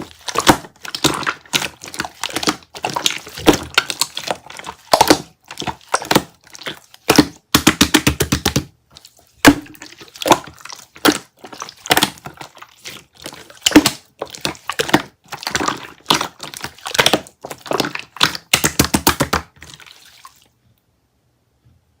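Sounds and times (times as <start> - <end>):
slime squished by hand: 0.0 - 20.5.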